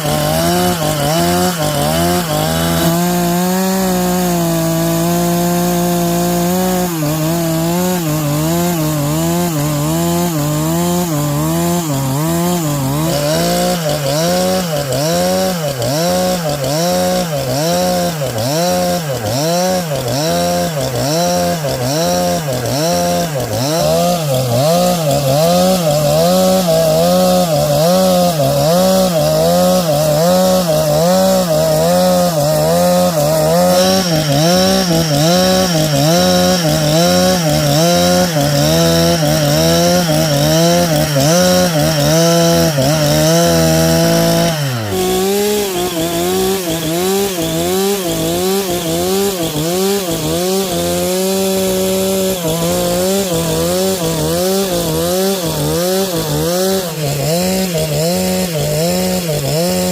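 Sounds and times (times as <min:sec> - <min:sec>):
chainsaw ripping a log: 0:00.0 - 0:59.9.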